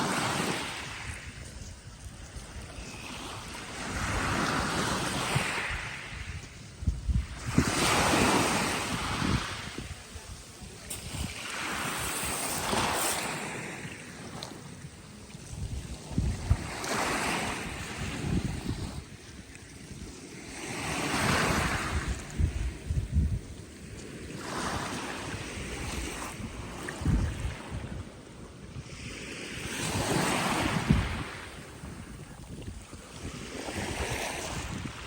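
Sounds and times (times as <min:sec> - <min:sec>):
waves breaking on shore: 0:00.0 - 0:35.0
wind rumbling on microphone: 0:00.0 - 0:35.0.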